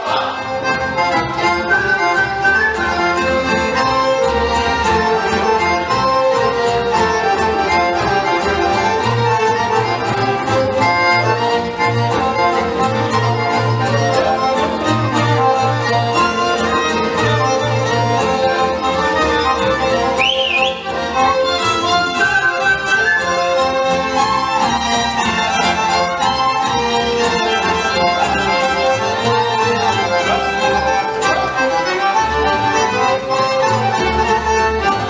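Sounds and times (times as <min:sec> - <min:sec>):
accordion and violin folk dance: 0:00.0 - 0:35.0.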